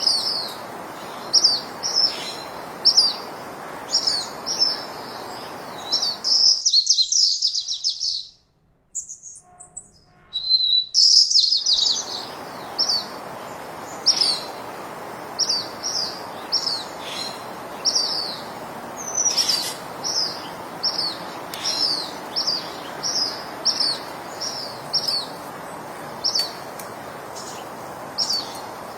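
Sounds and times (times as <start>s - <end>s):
background hiss: 0.0s - 10.3s, 10.9s - 28.9s
small birds chirping: 0.0s - 28.9s.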